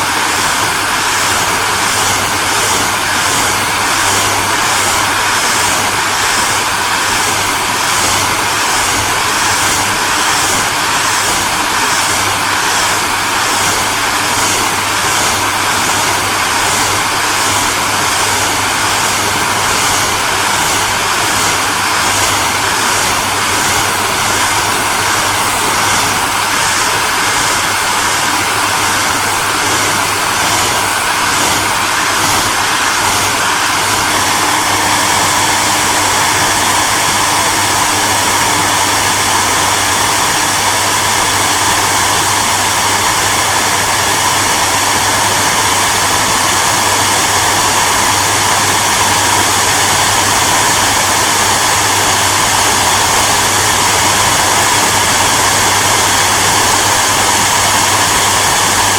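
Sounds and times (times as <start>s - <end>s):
hairdryer running: 0.0s - 58.9s.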